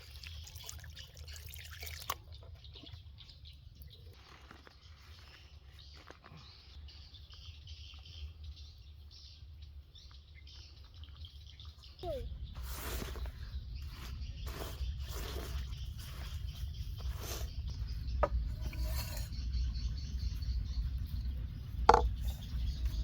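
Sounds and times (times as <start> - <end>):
bird chirps: 2.6 - 23.0.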